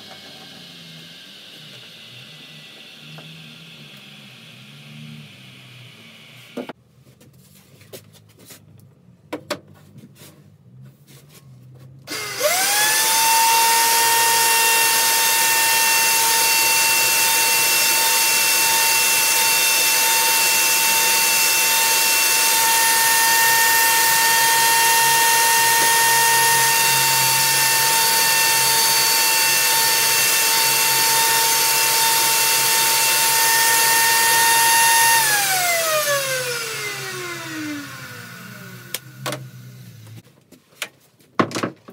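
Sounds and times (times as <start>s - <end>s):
electric router whining: 0.0s - 6.8s, 12.1s - 40.2s.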